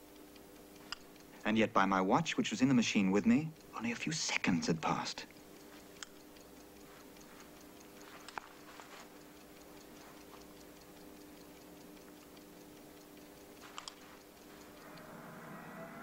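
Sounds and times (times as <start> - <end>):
clock ticking quickly: 0.0 - 16.0
faint steady hum: 0.0 - 16.0.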